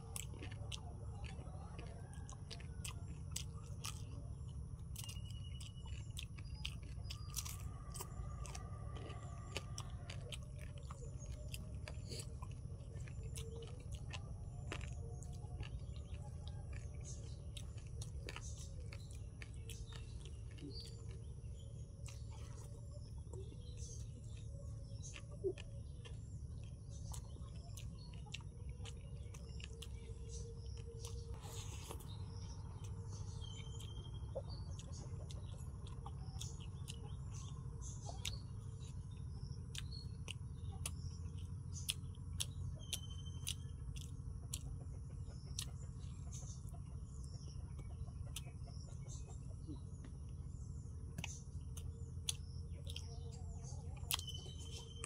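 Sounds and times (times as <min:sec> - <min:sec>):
person chewing food: 0:00.0 - 0:55.0
steady low rumble: 0:00.0 - 0:55.0.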